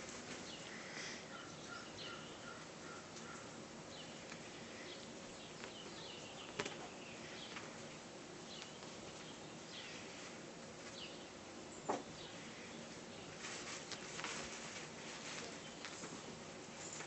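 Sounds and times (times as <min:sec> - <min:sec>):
low hiss: 0:00.0 - 0:17.0.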